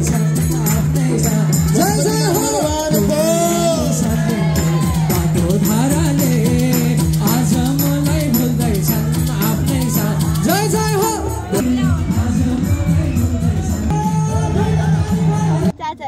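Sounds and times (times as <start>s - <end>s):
jingling clicking percussion: 0.0s - 15.7s
voices singing: 0.0s - 15.8s.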